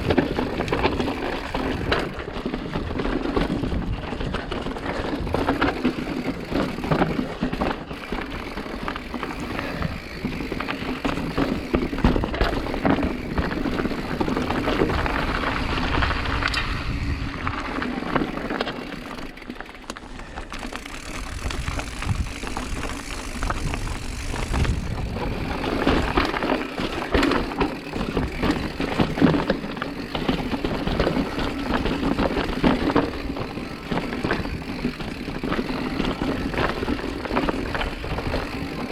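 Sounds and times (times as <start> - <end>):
bike frame rattling and clicking: 0.0 - 38.9
tyres rolling on rough trail: 0.0 - 38.9.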